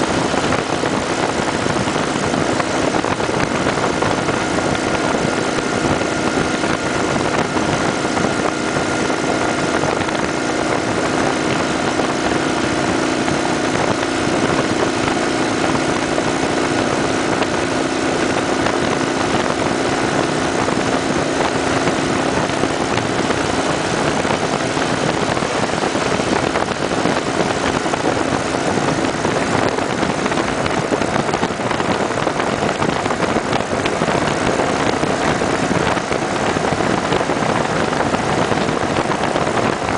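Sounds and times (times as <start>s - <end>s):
motorcycle engine hum: 0.0s - 39.9s
wind and road noise: 0.0s - 39.9s.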